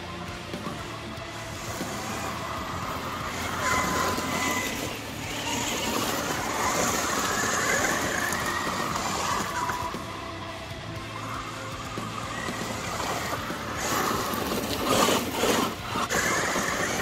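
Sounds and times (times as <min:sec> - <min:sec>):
electric motor whining: 0:00.0 - 0:17.0
tyres on gravel: 0:00.0 - 0:17.0.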